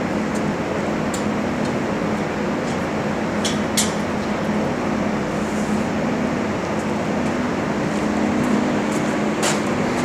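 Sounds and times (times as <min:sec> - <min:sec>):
large fans rushing air: 0:00.0 - 0:10.0.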